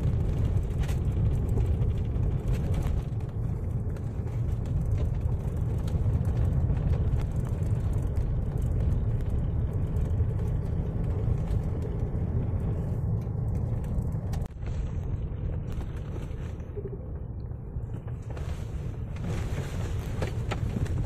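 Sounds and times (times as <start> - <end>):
car engine and road noise: 0.0 - 21.0
faint rattles and clicks: 0.0 - 21.0.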